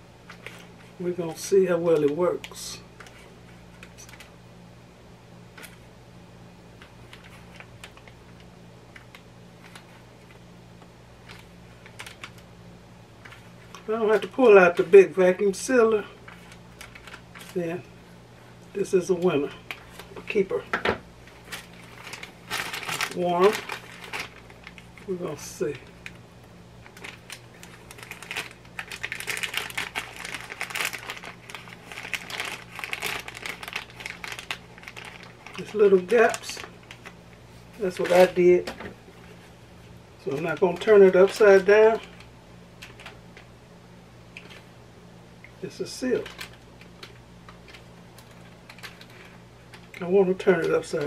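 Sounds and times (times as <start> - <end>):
low steady hum: 0.0 - 51.0
plastic bag crinkling: 0.2 - 4.3, 6.8 - 10.4, 11.2 - 12.5, 13.2 - 39.6, 40.2 - 43.5, 45.5 - 51.0.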